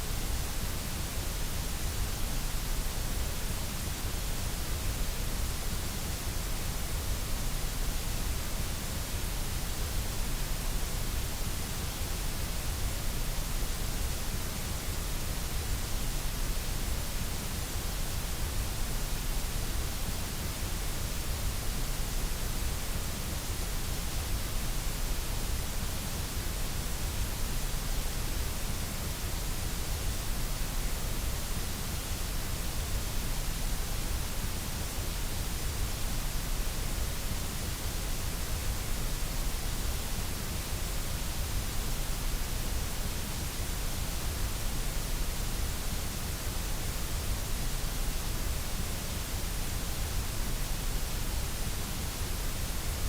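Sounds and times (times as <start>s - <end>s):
continuous even hiss: 0.0s - 53.0s.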